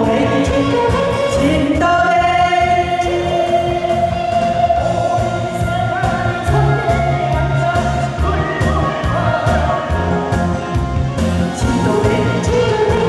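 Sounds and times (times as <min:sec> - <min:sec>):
amplified backing track: 0:00.0 - 0:13.0
man and woman singing duet: 0:00.0 - 0:13.0.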